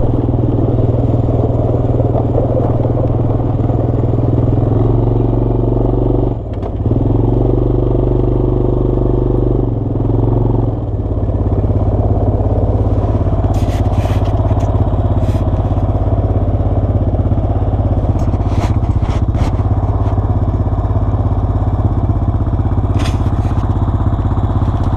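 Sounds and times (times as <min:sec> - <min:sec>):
atv engine running: 0:00.0 - 0:24.9.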